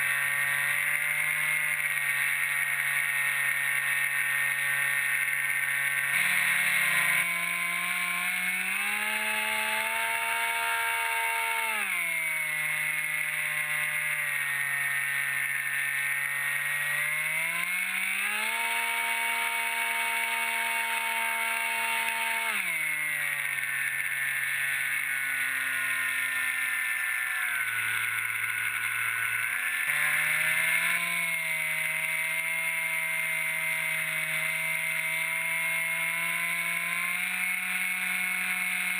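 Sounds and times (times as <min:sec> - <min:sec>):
electric propeller motor whine: 0:00.0 - 0:38.9.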